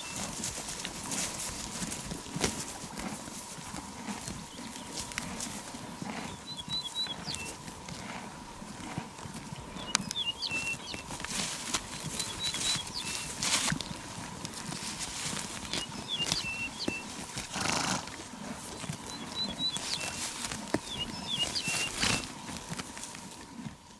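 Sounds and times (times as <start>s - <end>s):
hooves clip-clopping: 0.0s - 23.9s.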